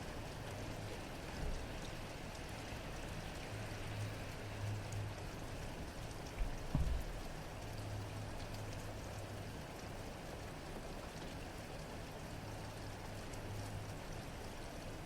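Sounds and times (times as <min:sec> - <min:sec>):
rain falling: 0:00.0 - 0:15.0
raindrop ticks: 0:00.3 - 0:15.0.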